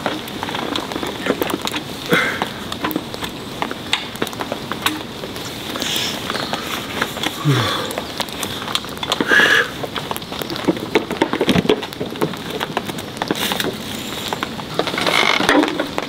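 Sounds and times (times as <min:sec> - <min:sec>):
light rain pattering on a tarp: 0:00.0 - 0:16.0.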